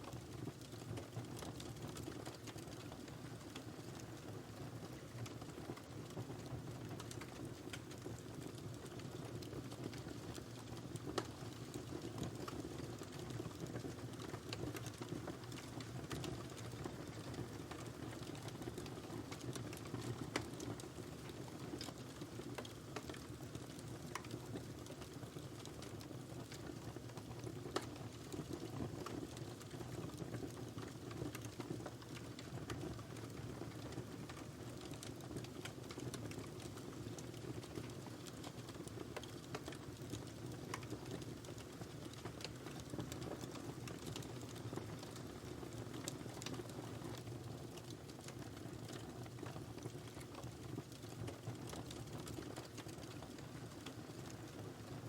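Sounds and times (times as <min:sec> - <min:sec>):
fire crackling and popping: 0:00.0 - 0:55.0
wood fire burning: 0:00.0 - 0:55.0.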